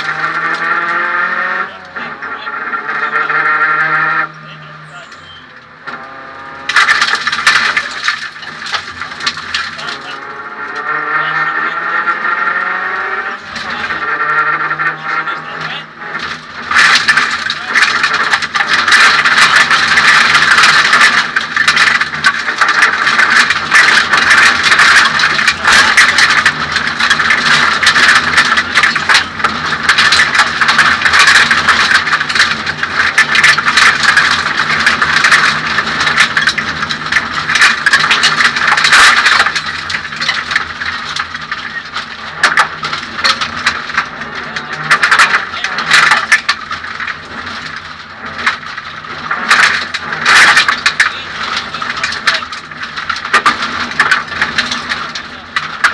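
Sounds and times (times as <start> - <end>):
rattles and knocks from car shell: 0.0 - 4.3, 5.8 - 55.9
loud road noise: 0.0 - 55.9
rally car engine running hard: 0.0 - 55.9.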